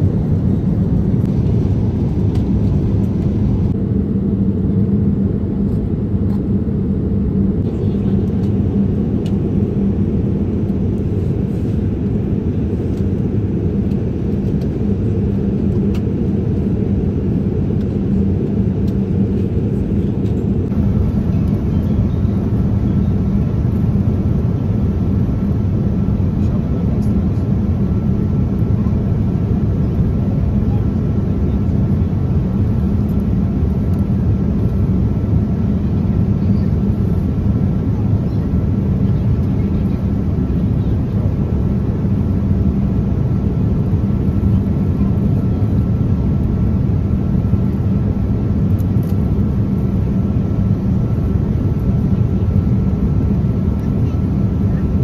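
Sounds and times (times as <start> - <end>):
airliner engine and airflow rumble: 0.0 - 55.0
steady hum: 0.0 - 55.0.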